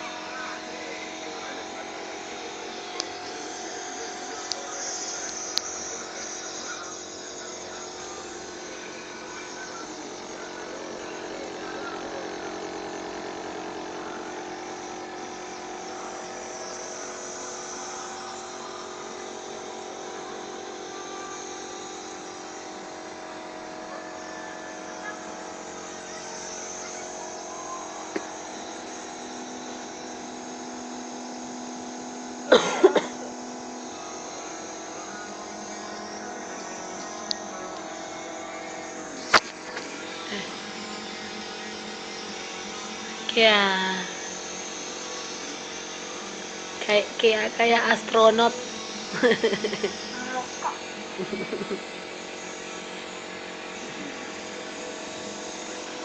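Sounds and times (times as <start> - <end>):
nebulizer compressor humming: 0.0 - 56.0.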